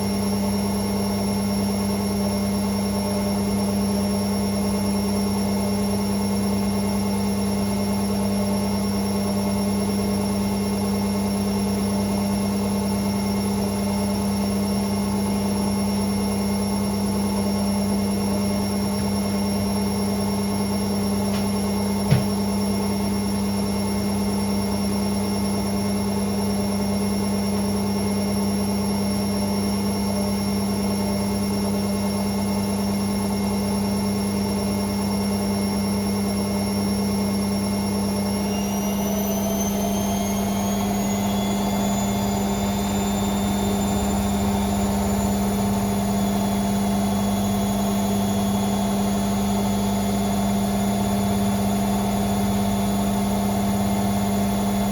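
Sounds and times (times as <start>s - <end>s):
washing machine spinning: 0.1s - 54.9s.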